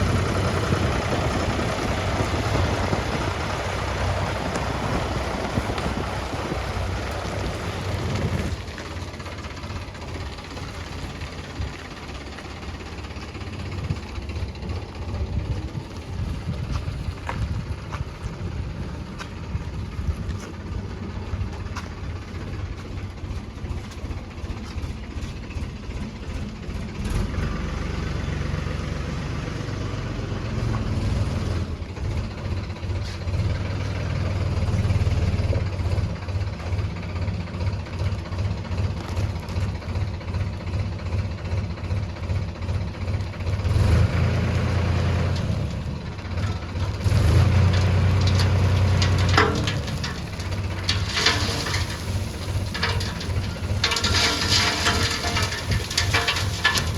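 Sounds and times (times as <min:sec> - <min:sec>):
diesel engine chugging: 0:00.0 - 0:56.9.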